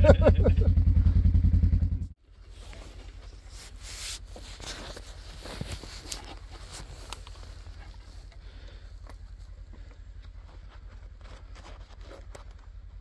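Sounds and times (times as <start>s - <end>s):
small engine idling: 0.1s - 13.0s
faint rustling: 2.3s - 13.0s.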